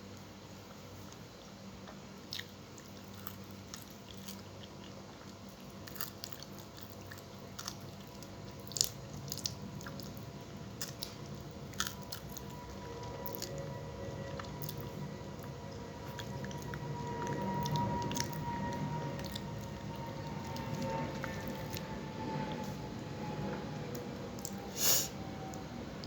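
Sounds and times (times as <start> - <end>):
faint steady hum: 0.0 - 26.0
person chewing and crunching food: 0.6 - 22.6, 23.6 - 24.7.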